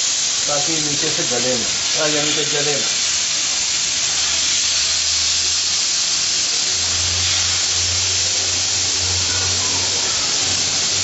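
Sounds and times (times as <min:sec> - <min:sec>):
chicken sizzling on a grill pan: 0:00.0 - 0:11.0.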